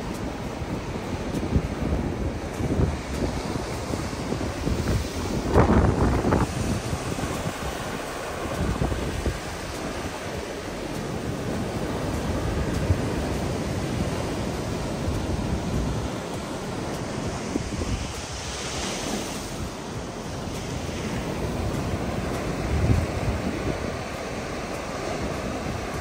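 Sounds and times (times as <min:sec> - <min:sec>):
ocean waves breaking on beach: 0:00.0 - 0:26.0
wind buffeting microphone: 0:00.0 - 0:26.0.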